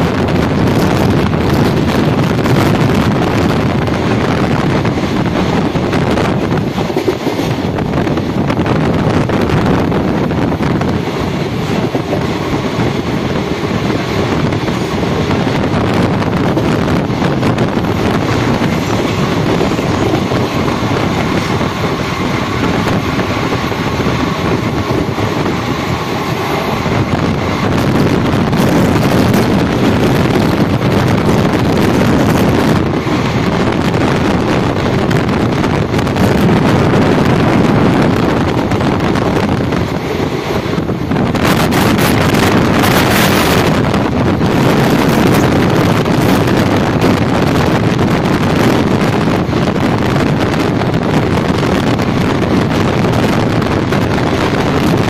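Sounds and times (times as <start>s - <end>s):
train running noise: 0.0s - 55.0s
wind on microphone: 0.0s - 55.0s.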